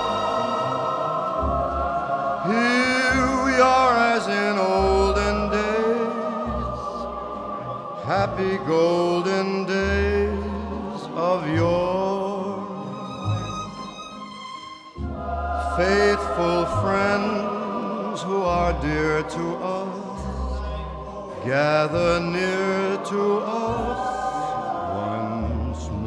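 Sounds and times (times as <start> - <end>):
choir singing held notes: 0.0 - 26.0.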